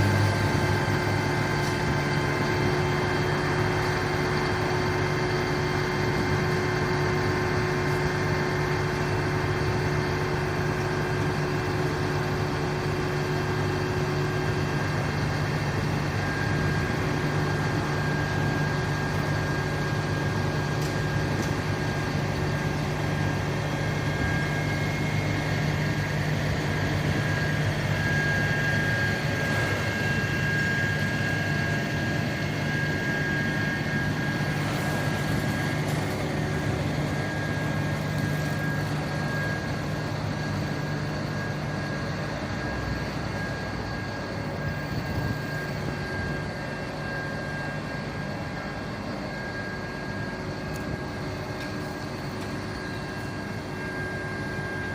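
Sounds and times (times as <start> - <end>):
large engine running: 0.0 - 54.9
thin high whine: 0.0 - 54.9.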